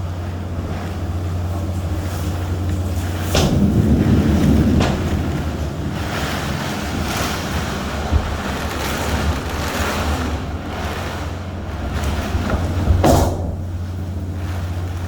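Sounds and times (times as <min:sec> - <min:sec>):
rain: 0:00.0 - 0:15.0
wind buffeting microphone: 0:00.0 - 0:15.0
wind gusts: 0:00.2 - 0:15.0.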